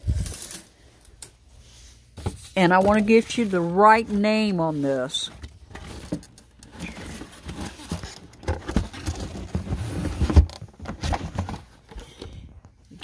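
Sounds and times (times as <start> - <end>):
cardboard boxes rustling and scraping: 1.6 - 12.5.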